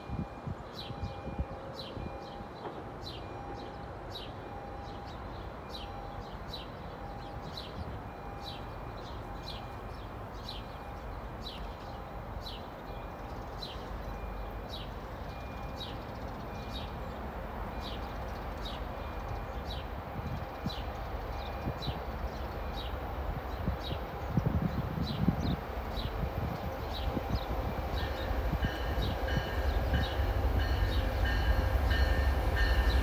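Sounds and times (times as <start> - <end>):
distant train rumble: 0.0 - 33.0
bird chirping: 1.8 - 33.0.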